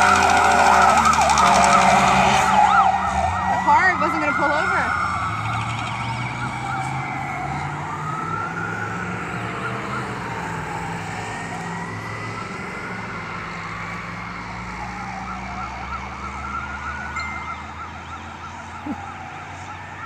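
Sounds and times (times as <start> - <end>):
fast yelping siren: 0.0 - 20.0
wailing siren: 0.0 - 20.0.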